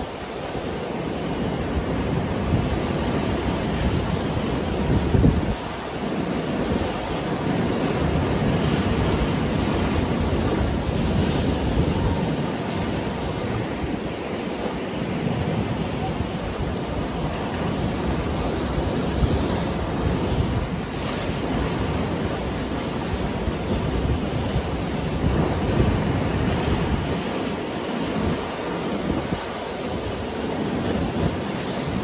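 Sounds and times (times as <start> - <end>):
sea waves breaking on rocks: 0.0 - 32.0.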